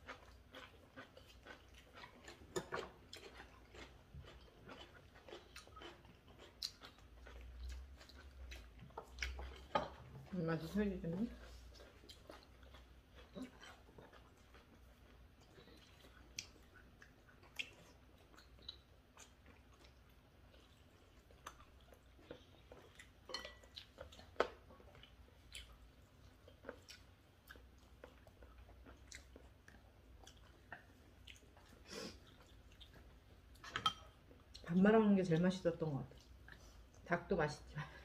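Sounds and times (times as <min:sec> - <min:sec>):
quiet chewing: 0:00.0 - 0:34.8, 0:36.0 - 0:37.1.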